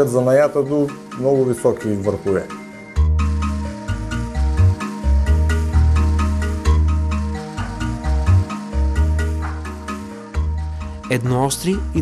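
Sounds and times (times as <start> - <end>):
instrumental music with pitched notes: 0.0 - 12.0.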